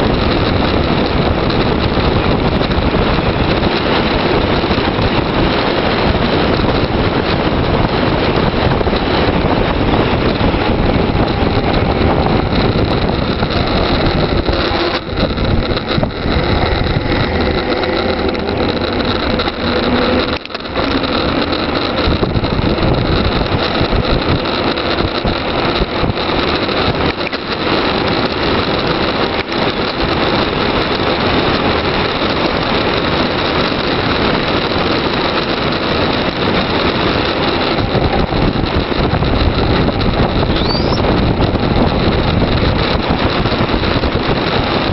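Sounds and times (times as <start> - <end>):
low road rumble: 0.0 - 44.9
wind rushing over microphone: 0.0 - 44.9.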